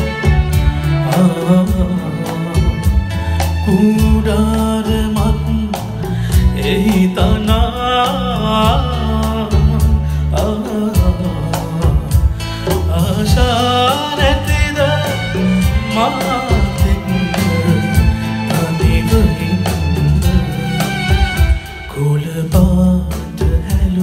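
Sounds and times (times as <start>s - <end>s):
drum kit beat: 0.0s - 24.0s
guitar: 0.0s - 24.0s
keyboard: 0.0s - 24.0s
man singing: 0.0s - 24.0s.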